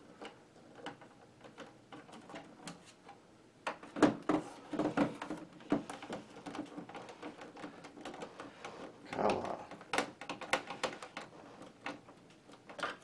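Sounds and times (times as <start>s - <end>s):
plastic knocking and rattling: 0.0s - 13.0s.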